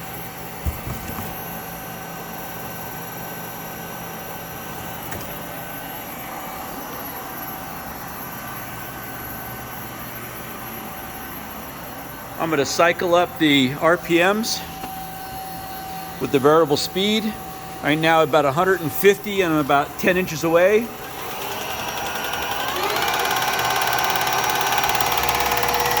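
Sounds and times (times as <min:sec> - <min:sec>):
lathe mechanical hum: 0:00.0 - 0:26.0.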